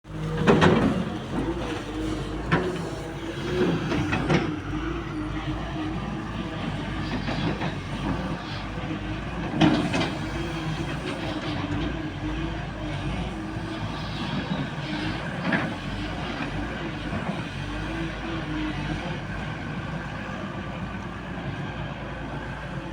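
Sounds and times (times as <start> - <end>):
excavator engine droning: 0.0 - 22.9.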